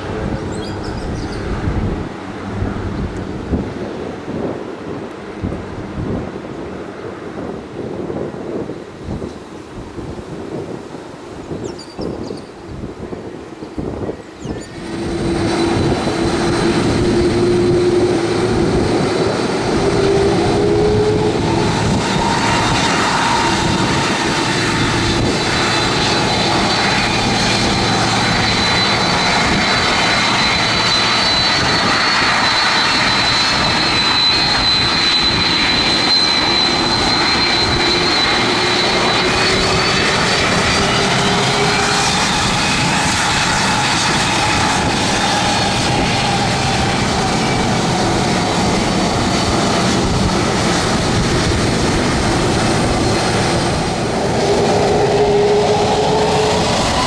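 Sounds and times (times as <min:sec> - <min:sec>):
airliner engines roaring: 0:00.0 - 0:57.0.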